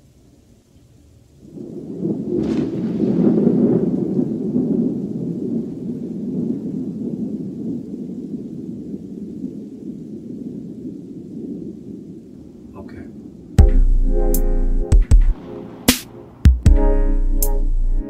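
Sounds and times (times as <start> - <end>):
rolling thunder: 1.1 - 17.7.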